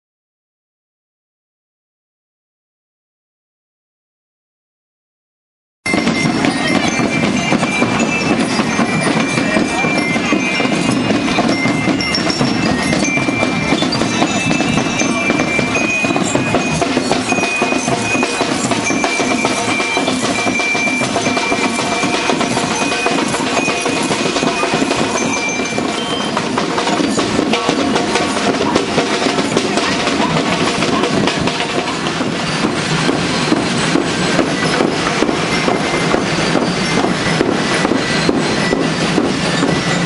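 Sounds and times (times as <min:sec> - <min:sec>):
glockenspiel melody: 0:05.9 - 0:40.0
marching drum beat: 0:05.9 - 0:40.0.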